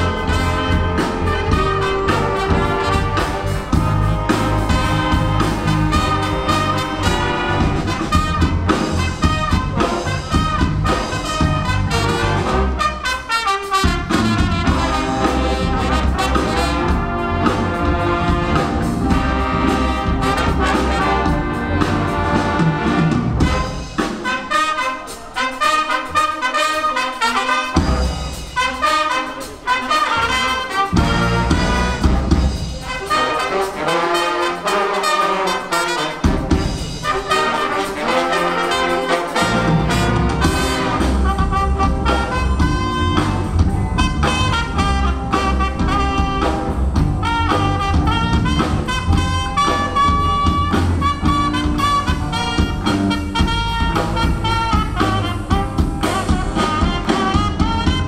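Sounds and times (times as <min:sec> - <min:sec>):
big band jazz: 0:00.0 - 0:58.0
brass section trumpets and trombones: 0:00.0 - 0:58.0.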